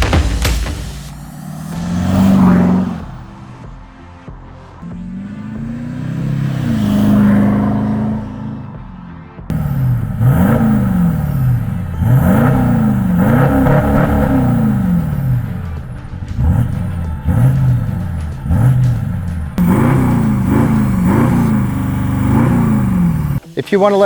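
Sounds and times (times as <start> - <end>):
diesel engine revving: 0.0 - 3.8, 4.8 - 23.4.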